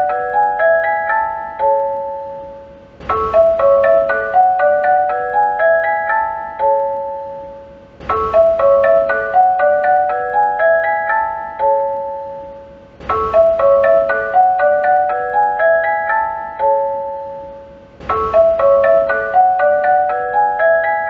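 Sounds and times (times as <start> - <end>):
bell-like chime: 0.0 - 21.0.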